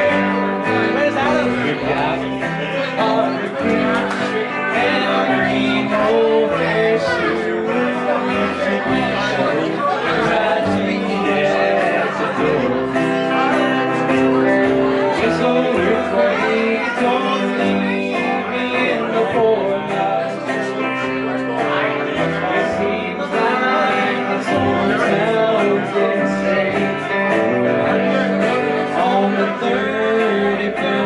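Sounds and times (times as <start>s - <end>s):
live country band playing: 0.0s - 31.0s
strummed acoustic guitar: 0.0s - 31.0s
upright bass: 0.0s - 31.0s.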